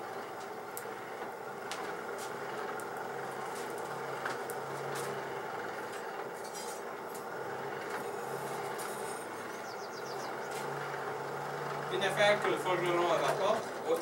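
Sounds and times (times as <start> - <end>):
forge fire rushing: 0.0 - 14.0.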